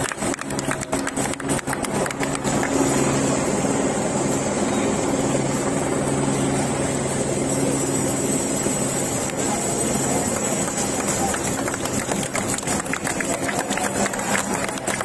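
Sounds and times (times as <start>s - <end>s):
engine hum: 0.0s - 15.0s.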